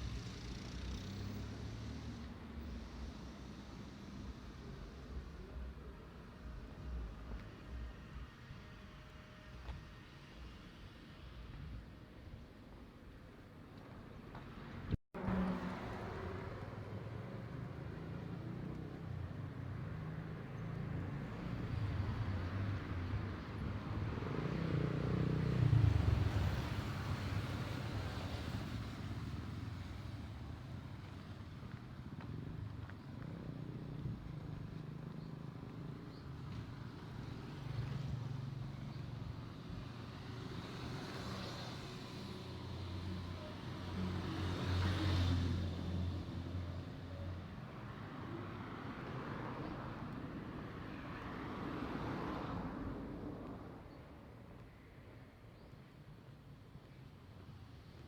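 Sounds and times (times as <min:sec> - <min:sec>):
vehicle engines passing: 0:00.0 - 0:08.4, 0:14.2 - 0:55.3.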